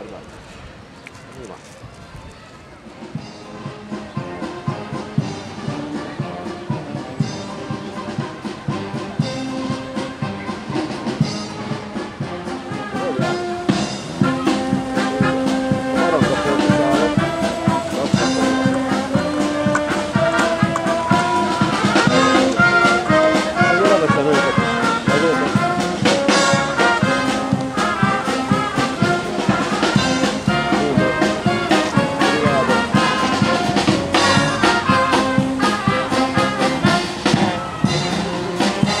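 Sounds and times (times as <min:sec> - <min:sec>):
brass band playing: 0:03.1 - 0:39.0.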